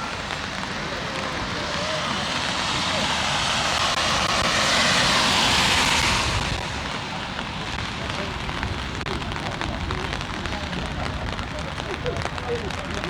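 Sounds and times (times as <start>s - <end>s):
rain falling: 0.0s - 13.0s
raindrops ticking on an umbrella: 0.0s - 13.0s.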